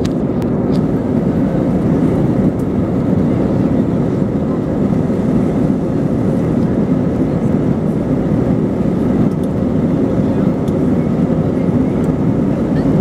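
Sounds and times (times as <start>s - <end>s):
jet engines at take-off power: 0.0s - 13.0s
wheels rumbling on runway: 0.0s - 13.0s.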